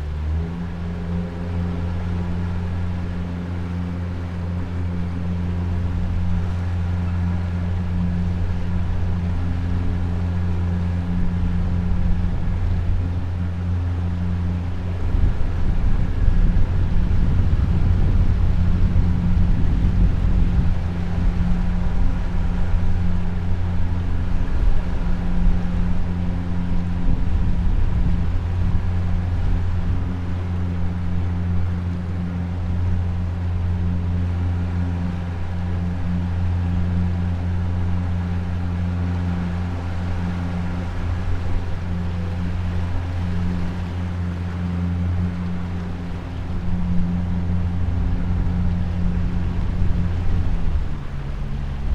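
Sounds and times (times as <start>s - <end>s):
boat engine drone: 0.0s - 51.9s
water noise: 0.0s - 51.9s.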